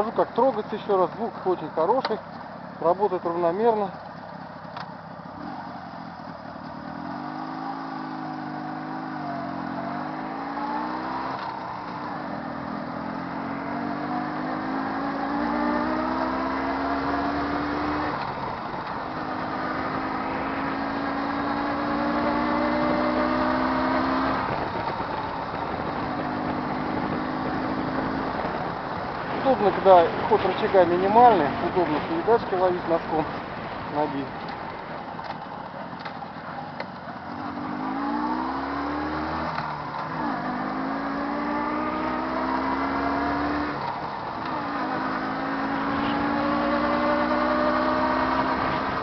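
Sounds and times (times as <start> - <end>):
two-stroke engine accelerating: 0.0 - 49.0.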